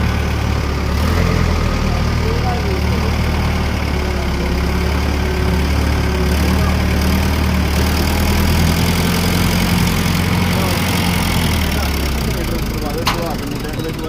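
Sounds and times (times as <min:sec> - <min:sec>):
heavy engine idling: 0:00.0 - 0:14.0.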